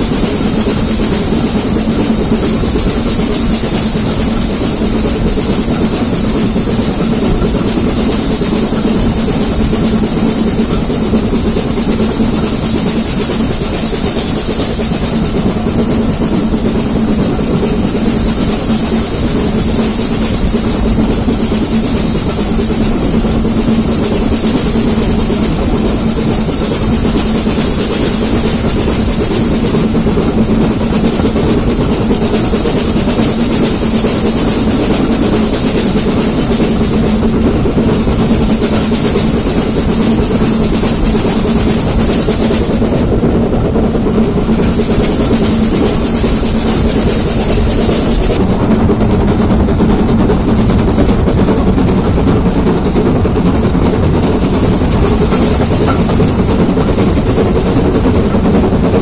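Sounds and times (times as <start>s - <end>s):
steam locomotive hissing: 0.0s - 59.0s
train wheels rumbling on rail: 0.0s - 59.0s.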